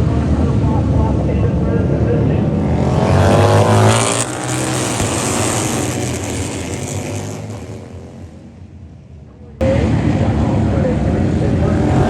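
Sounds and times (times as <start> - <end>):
racing motorcycle engine passing by: 0.0 - 12.0.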